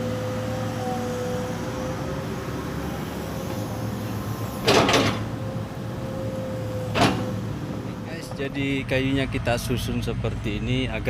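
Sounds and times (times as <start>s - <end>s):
excavator engine humming: 0.0s - 11.0s.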